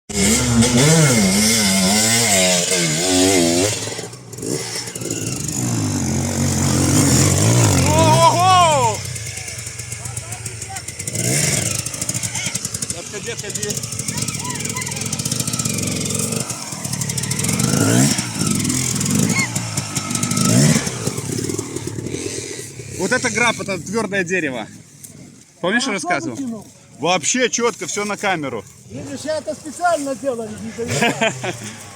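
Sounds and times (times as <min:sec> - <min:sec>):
motorcycle engine revving: 0:00.1 - 0:25.4, 0:28.6 - 0:31.9.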